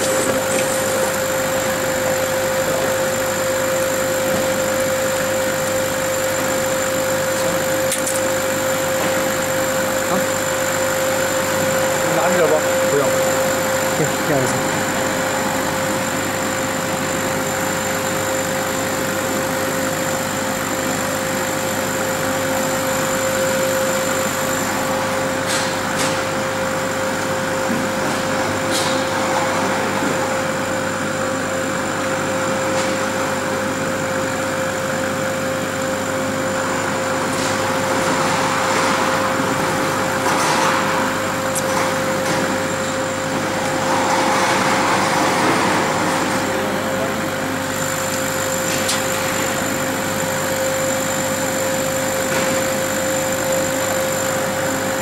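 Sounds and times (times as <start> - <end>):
laser cutter equipment humming: 0.0 - 55.0.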